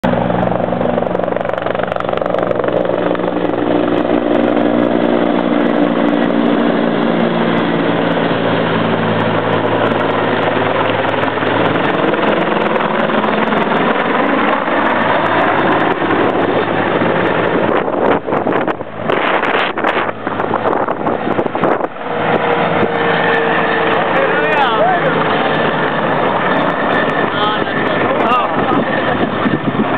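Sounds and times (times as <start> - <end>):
helicopter flying overhead: 0.0 - 29.9.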